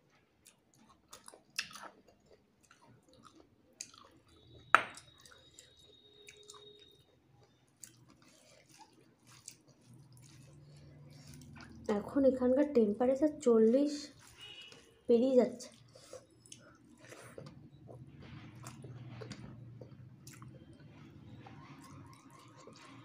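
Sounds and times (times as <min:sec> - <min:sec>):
person chewing: 0:00.0 - 0:12.0, 0:14.1 - 0:14.9, 0:15.7 - 0:23.0.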